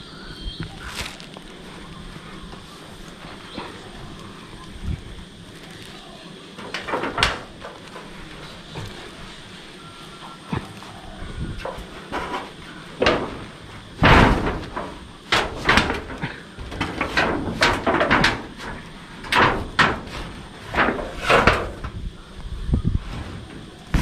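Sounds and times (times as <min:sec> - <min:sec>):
crackling rustles: 0:00.0 - 0:24.0.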